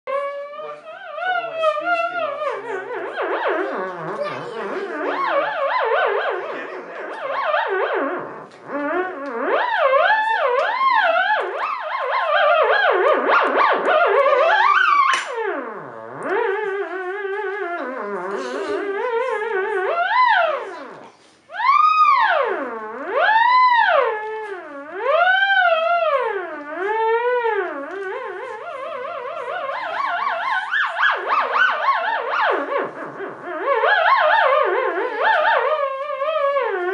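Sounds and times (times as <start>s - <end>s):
theremin tone wavering in pitch: 0.1s - 36.9s.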